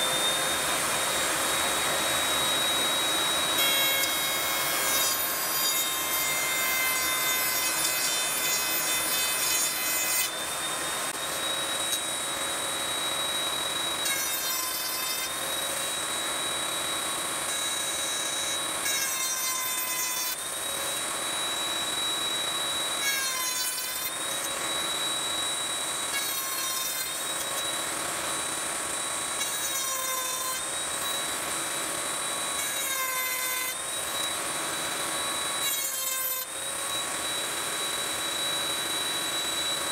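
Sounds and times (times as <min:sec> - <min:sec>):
router bit cutting plywood: 0:00.0 - 0:39.9
router motor whining: 0:00.0 - 0:39.9.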